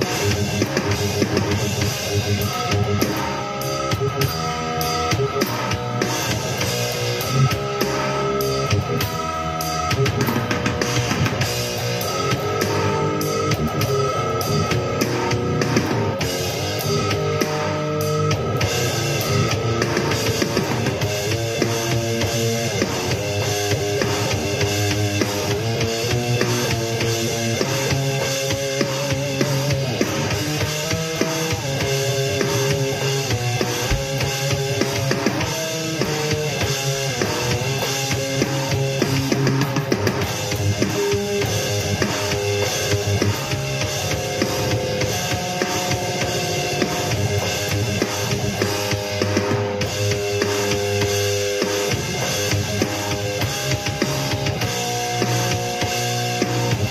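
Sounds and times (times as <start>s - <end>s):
drum kit beat: 0.0s - 56.9s
electric guitar playing: 0.0s - 56.9s.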